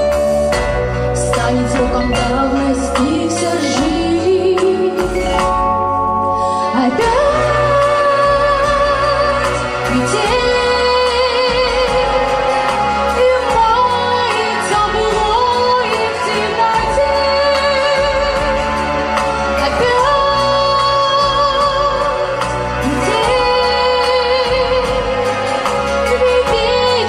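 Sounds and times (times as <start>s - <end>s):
pop backing track: 0.0s - 27.0s
woman singing: 1.0s - 27.0s.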